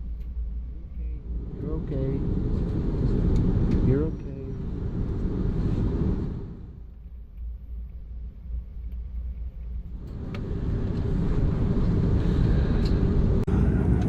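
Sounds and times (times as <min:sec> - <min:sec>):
aircraft engines rumbling in cabin: 0:00.0 - 0:14.0.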